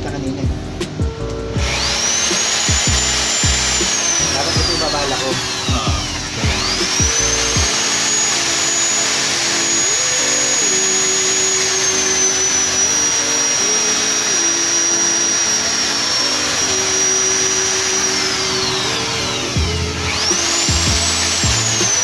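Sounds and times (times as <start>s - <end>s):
electric drill wire brush on metal: 1.6s - 22.0s.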